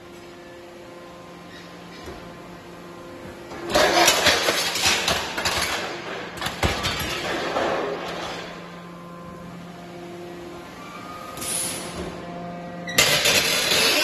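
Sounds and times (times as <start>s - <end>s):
hydraulic power unit hum: 0.0s - 14.0s.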